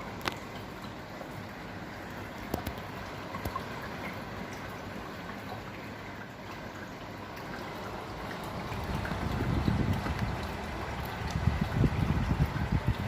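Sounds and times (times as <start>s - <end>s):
fan blowing steadily: 0.0s - 13.0s
water trickling: 0.0s - 13.0s.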